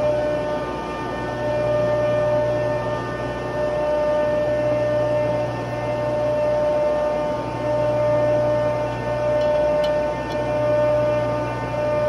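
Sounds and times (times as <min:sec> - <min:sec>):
machinery humming with whining tones: 0:00.0 - 0:12.0.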